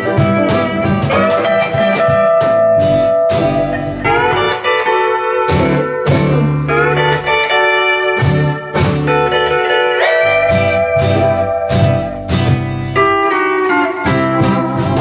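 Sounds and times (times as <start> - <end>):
hawaiian-style instrumental band: 0.0 - 15.0.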